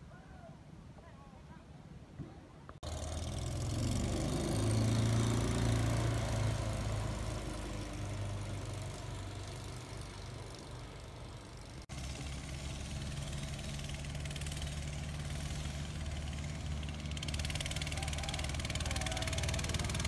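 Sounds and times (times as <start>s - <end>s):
boat engine passing: 2.8s - 20.0s.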